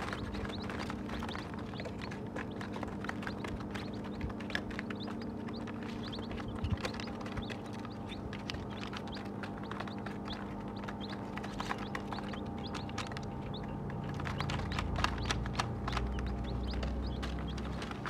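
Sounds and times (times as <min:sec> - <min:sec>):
chicks pecking in plastic tray: 0:00.0 - 0:18.0
chicks peeping: 0:00.0 - 0:18.0
steady low hum: 0:00.0 - 0:18.0.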